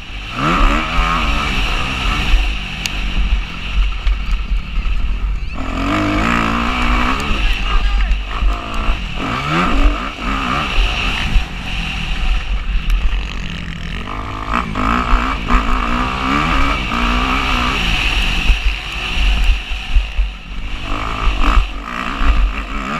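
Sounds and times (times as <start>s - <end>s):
motocross bike engine revving: 0.0s - 22.9s
wind rumble on microphone: 0.0s - 22.9s.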